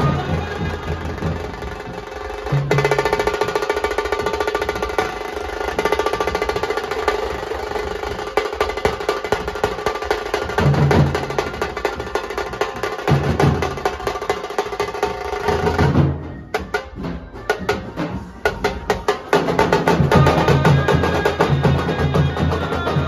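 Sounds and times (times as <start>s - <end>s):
deep drum beats: 0.0s - 23.0s
fast drum roll: 0.0s - 23.0s.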